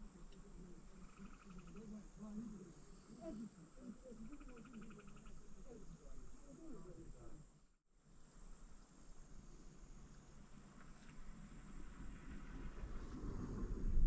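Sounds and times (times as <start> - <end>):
faint insect chirping: 0.0 - 12.6.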